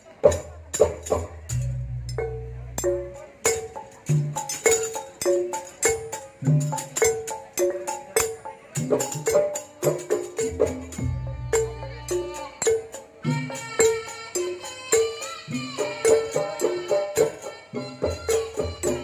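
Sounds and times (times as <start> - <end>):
sharp pitched percussion strokes: 0.0 - 19.0.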